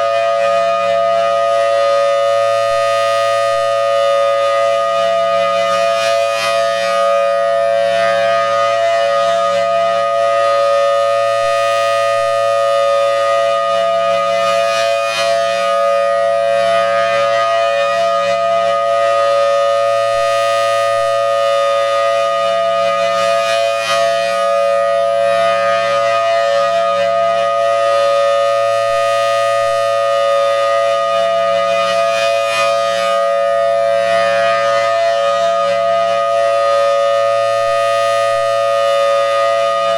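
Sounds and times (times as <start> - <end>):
two-note siren: 0.0 - 39.9.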